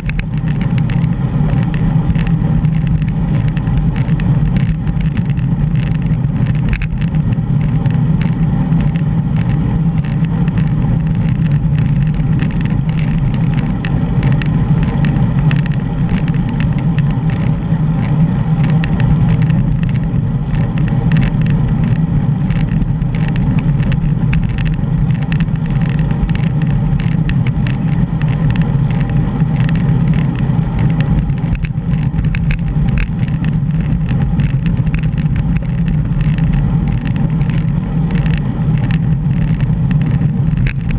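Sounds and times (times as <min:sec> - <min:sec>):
road rumble: 0:00.0 - 0:40.9
small rattling ticks: 0:00.0 - 0:40.9.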